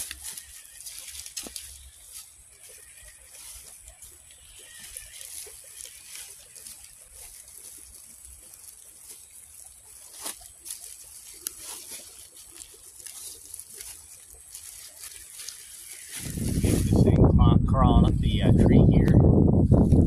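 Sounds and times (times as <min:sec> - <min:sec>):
toy car tires clicking and crackling: 0:00.0 - 0:16.6.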